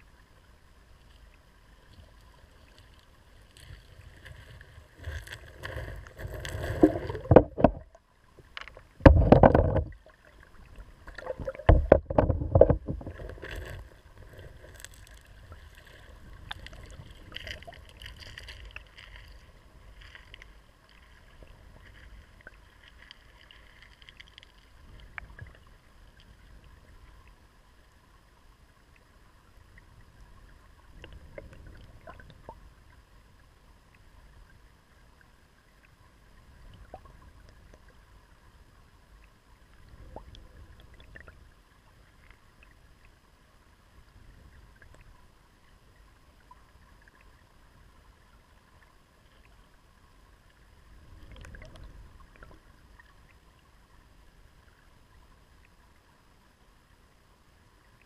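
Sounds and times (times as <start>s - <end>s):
water rushing and bubbling: 0.0s - 56.0s.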